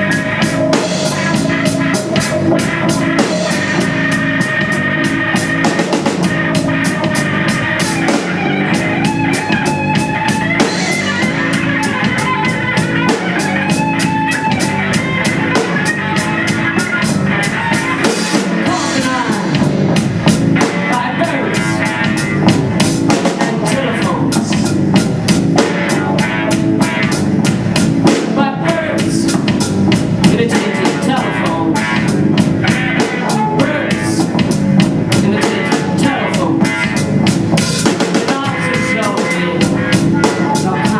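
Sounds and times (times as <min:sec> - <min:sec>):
drum kit fast beat: 0:00.0 - 0:40.9
live rock band music: 0:00.0 - 0:40.9.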